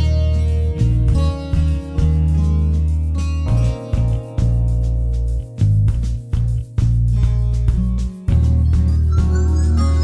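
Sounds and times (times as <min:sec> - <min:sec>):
instrumental music with heavy bass: 0:00.0 - 0:10.0.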